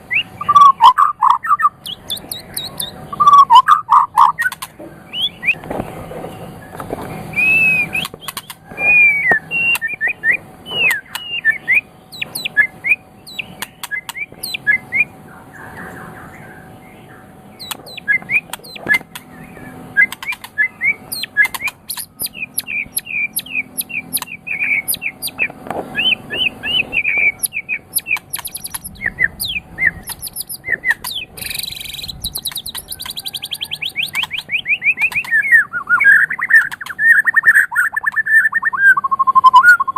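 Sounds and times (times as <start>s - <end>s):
bird singing whistled song: 0.0s - 5.6s, 6.6s - 15.2s, 16.2s - 39.9s.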